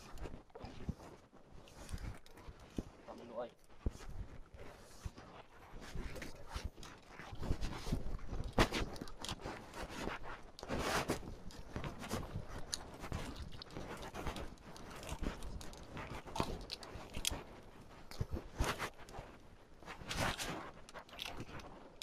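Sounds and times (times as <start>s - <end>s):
fishing gear knocking and rustling: 0.0s - 22.0s.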